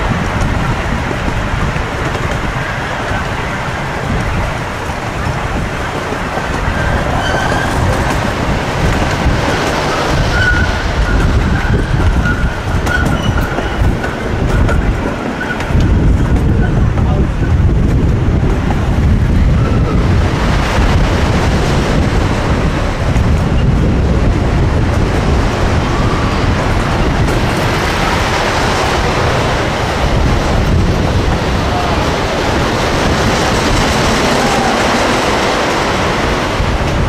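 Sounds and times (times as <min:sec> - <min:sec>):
train rumbling along track: 0:00.0 - 0:37.0
wind buffeting microphone: 0:00.0 - 0:37.0.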